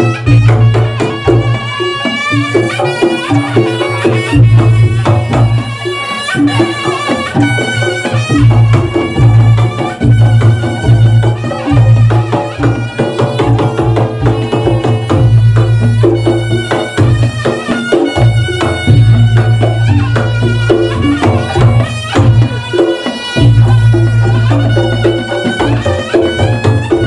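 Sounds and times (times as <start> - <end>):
hand drum rapid drumming: 0.0 - 27.0
reedy wind instrument melody: 0.0 - 27.0
struck percussion: 0.0 - 27.0.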